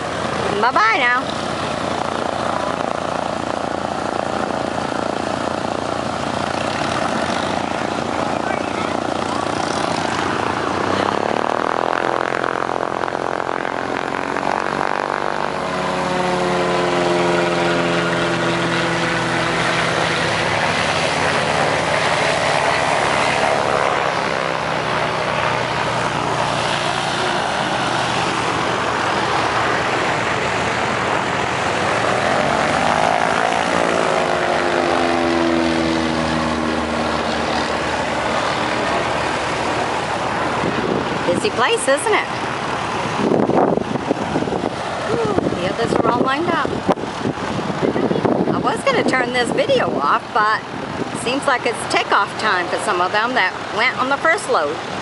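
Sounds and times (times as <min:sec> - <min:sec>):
airplane engines droning: 0:00.0 - 0:55.0.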